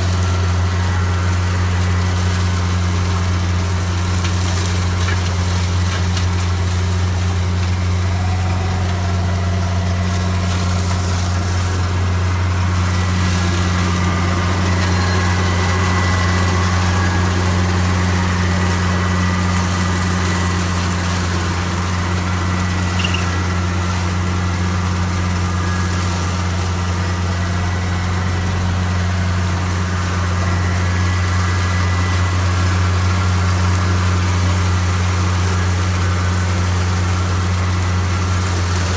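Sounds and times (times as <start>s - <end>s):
harvester engine humming: 0.0s - 38.9s.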